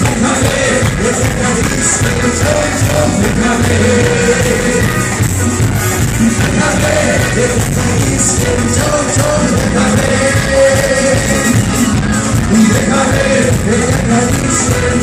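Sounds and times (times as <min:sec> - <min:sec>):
person singing: 0:00.0 - 0:05.4, 0:06.0 - 0:15.0
live band playing: 0:00.0 - 0:15.0.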